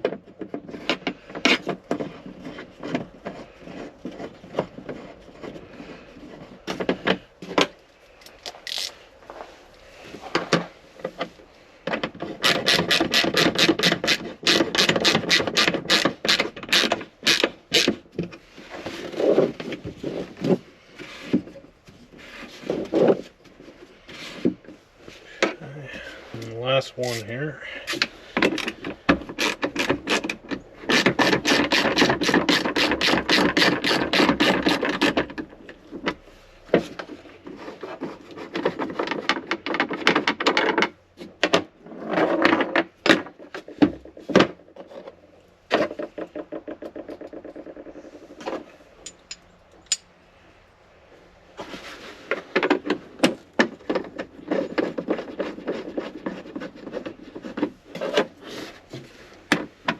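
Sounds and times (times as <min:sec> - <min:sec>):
knocks and scrapes: 0:00.0 - 0:50.1, 0:51.4 - 0:59.9.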